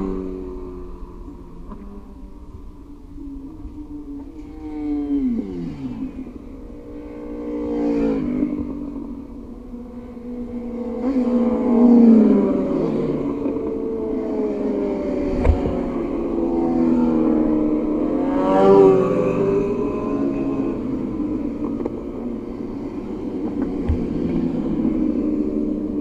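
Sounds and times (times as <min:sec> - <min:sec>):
motorcycle passing close: 0:00.0 - 0:26.0
racing motorcycles at high revs: 0:04.2 - 0:26.0.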